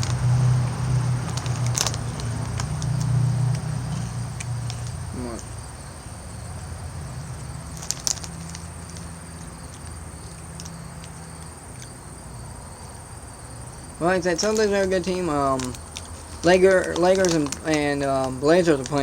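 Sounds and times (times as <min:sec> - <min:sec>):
sharp crackles: 0:00.0 - 0:06.1, 0:07.2 - 0:12.0, 0:14.0 - 0:19.0.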